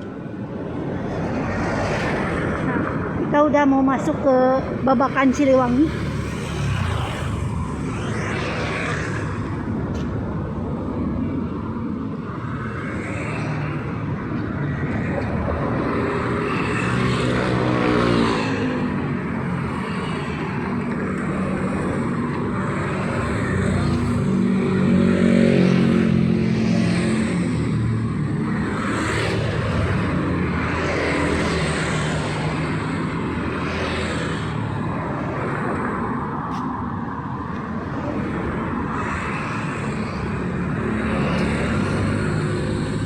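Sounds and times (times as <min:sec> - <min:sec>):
road noise: 0:00.0 - 0:43.0
vehicles driving past: 0:00.0 - 0:43.0.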